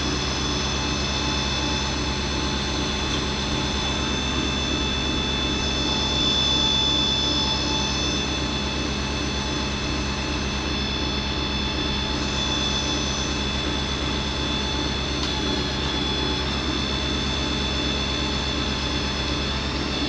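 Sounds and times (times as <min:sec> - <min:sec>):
machine motor whine and hum: 0:00.0 - 0:20.0.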